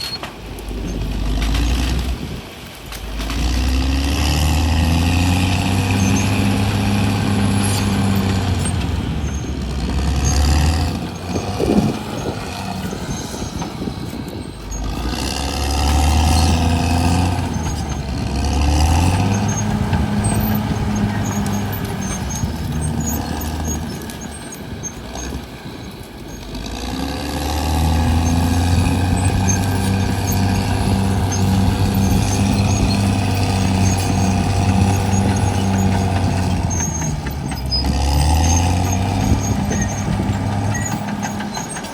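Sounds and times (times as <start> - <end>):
bulldozer diesel engine working: 0.0 - 41.9.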